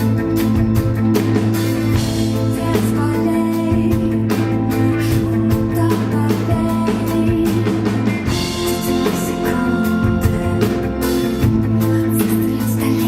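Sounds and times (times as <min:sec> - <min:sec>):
drum kit beat: 0:00.0 - 0:13.0
electric guitar: 0:00.0 - 0:13.0.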